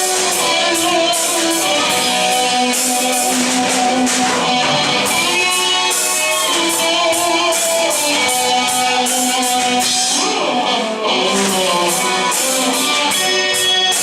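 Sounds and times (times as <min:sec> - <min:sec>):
drums: 0:00.0 - 0:14.0
electric guitar strumming: 0:00.0 - 0:14.0.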